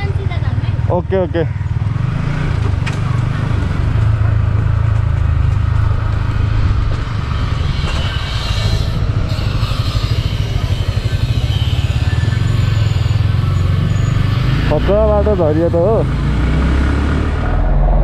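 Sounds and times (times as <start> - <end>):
motorcycle engine running at low speed: 0.0 - 18.0.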